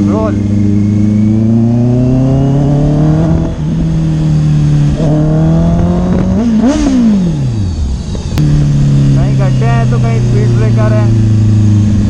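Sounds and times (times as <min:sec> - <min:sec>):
motorcycle engine accelerating: 0:00.0 - 0:12.0
wind rush: 0:00.3 - 0:12.0.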